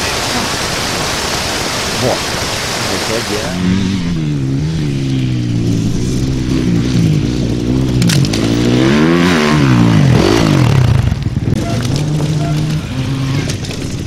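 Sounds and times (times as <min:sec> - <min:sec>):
dirt bike engines revving: 0:01.9 - 0:14.0.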